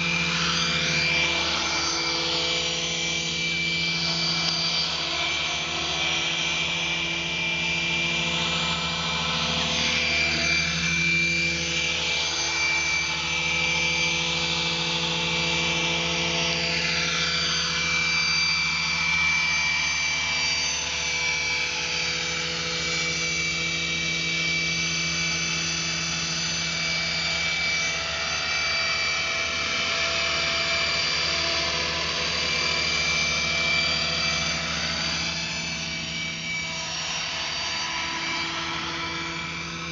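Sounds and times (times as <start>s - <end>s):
high motor whine: 0.0s - 39.9s
model helicopter rotor buzz: 0.0s - 39.9s.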